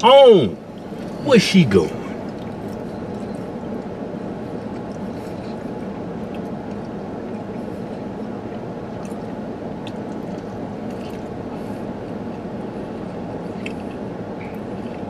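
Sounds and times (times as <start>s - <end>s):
car cabin noise: 0.0s - 15.0s
person chewing food: 2.2s - 15.0s.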